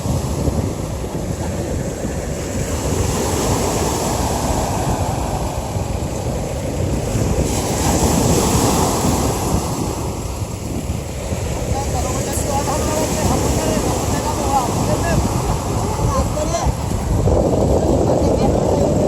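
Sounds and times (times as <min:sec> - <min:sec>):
sea surf washing onto beach: 0:00.0 - 0:19.0
wind buffeting microphone: 0:00.0 - 0:19.0.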